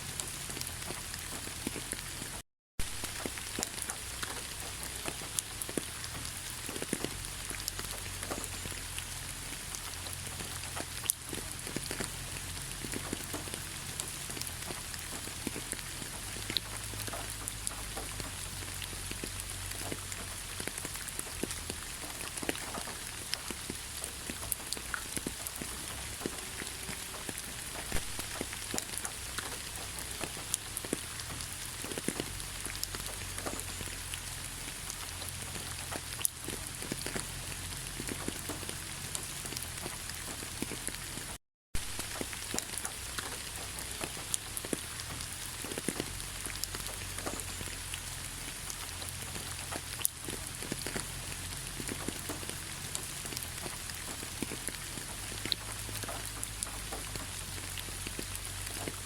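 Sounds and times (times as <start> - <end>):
close raindrops striking: 0.0 - 59.0
rain falling in forest: 0.0 - 59.0.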